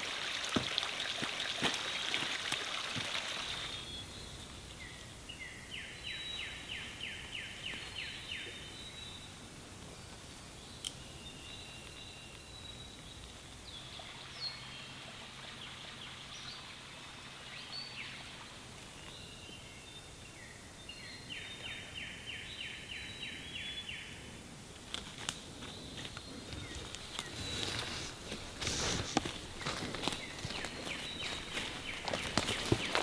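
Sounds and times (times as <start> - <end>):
songbirds singing: 0.6 - 33.0.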